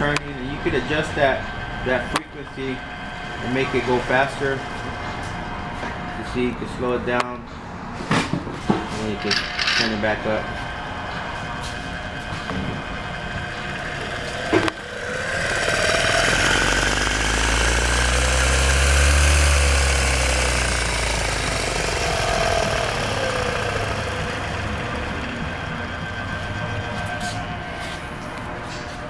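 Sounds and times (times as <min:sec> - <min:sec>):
motor whine: 0:00.0 - 0:07.8, 0:09.0 - 0:29.0.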